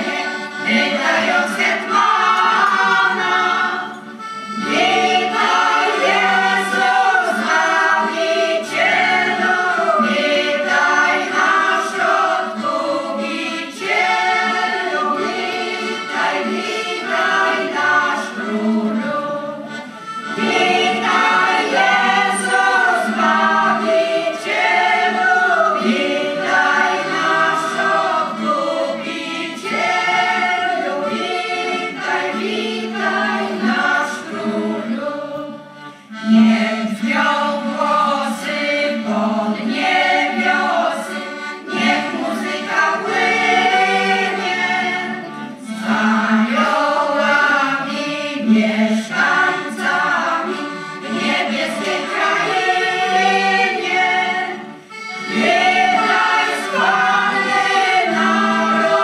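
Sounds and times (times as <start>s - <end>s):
accordion holding low notes: 0.0s - 59.0s
women's choir singing: 0.0s - 59.0s.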